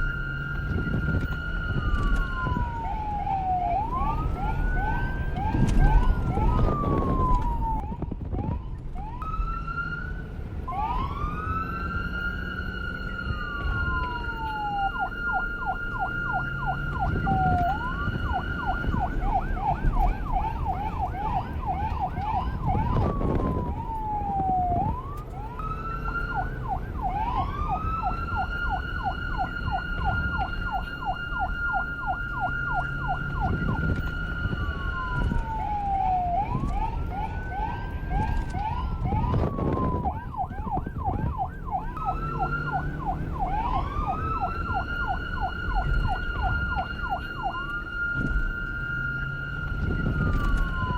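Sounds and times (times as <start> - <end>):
police siren wail and yelp: 0.0 - 50.9.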